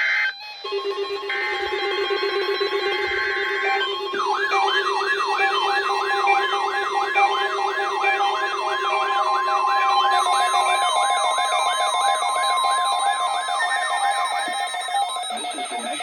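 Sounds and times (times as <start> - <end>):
steady and beeping alarm tones: 0.3 - 16.0.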